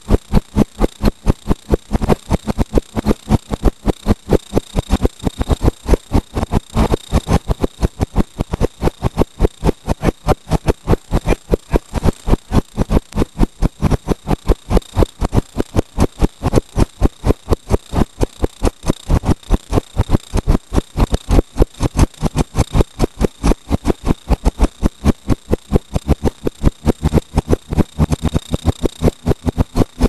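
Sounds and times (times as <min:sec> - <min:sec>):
loud even pulsing: 0:00.0 - 0:30.0
thin high whine: 0:00.0 - 0:30.0.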